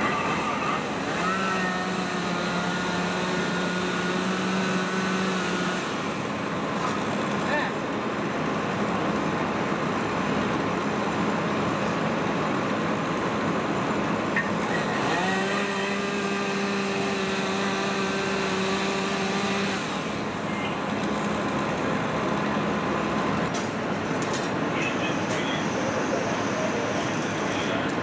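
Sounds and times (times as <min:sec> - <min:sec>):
fire engines droning: 0:00.0 - 0:28.0.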